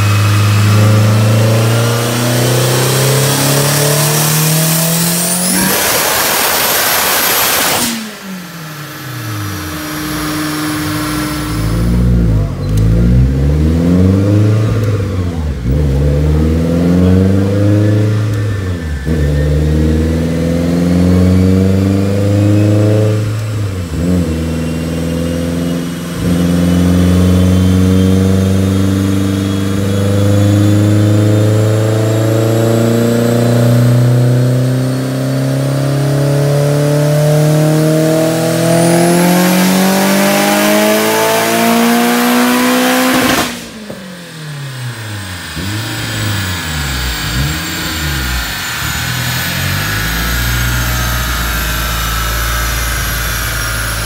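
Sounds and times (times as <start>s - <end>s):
car engine revving under load: 0.0s - 54.0s.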